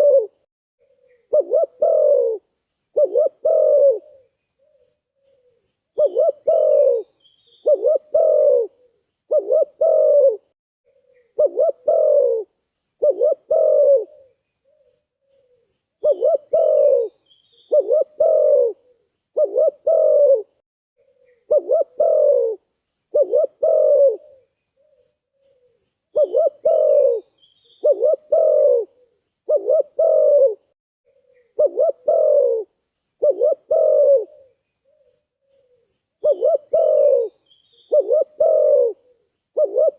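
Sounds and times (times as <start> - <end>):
dove cooing: 0.0 - 2.4, 3.0 - 39.9.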